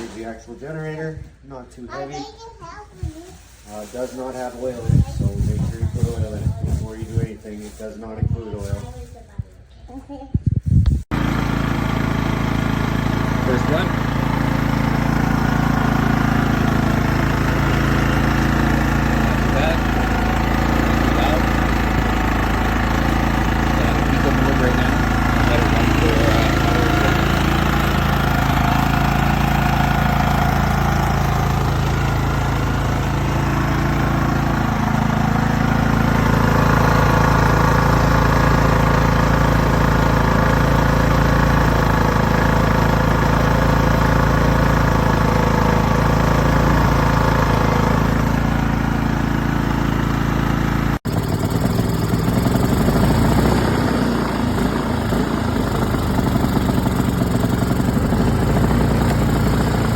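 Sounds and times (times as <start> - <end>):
generator engine running: 3.3 - 8.0, 11.1 - 59.9.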